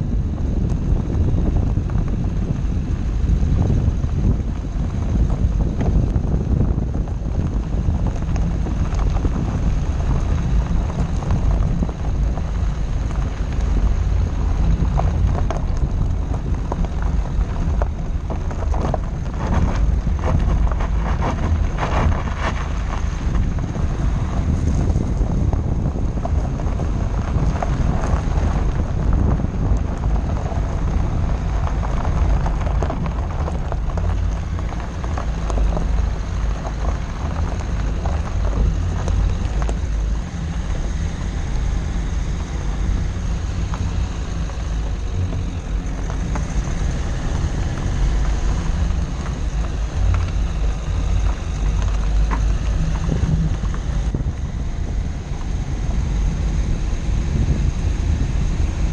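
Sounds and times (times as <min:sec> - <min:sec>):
steady low rumble: 0:00.0 - 0:58.9
tyres crunching over gravel: 0:00.0 - 0:58.9
wind buffeting microphone: 0:00.0 - 0:58.9.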